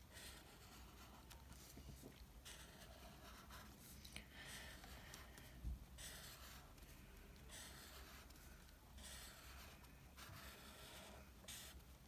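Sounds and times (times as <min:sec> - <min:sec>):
marker scratching on paper: 0:00.1 - 0:01.4, 0:02.4 - 0:12.0.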